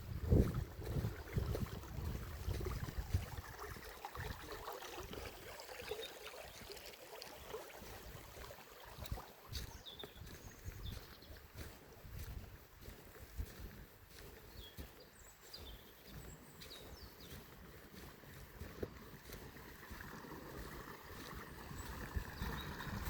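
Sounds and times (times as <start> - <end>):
river water gurgling over stones: 0.1 - 14.6, 15.4 - 23.0.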